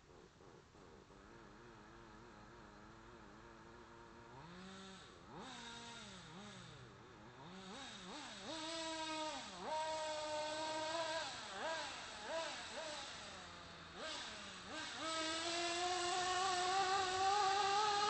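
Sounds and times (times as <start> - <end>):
model engine running: 0.0 - 18.0.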